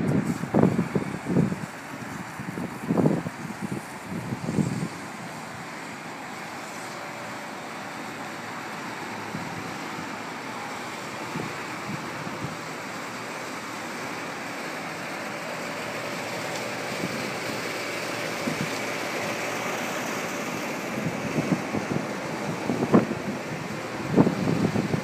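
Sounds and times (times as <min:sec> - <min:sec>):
wind buffeting microphone: 0:00.0 - 0:10.5, 0:11.1 - 0:13.0, 0:16.8 - 0:25.0
steady rushing noise: 0:00.0 - 0:25.0.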